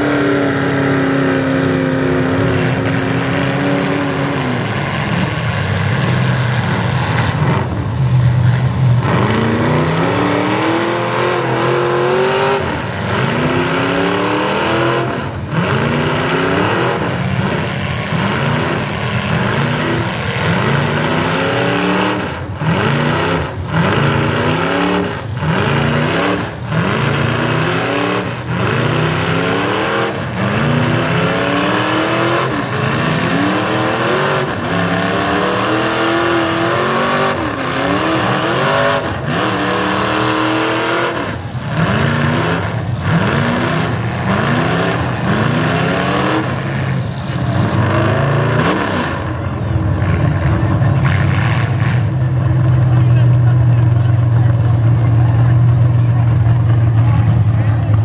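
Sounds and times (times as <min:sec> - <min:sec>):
steady noisy din: 0:00.0 - 0:58.0
truck engines revving hard: 0:00.0 - 0:58.0.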